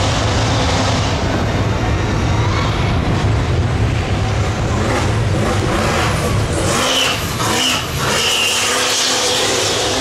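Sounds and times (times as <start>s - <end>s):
truck engine at full throttle: 0.0s - 10.0s.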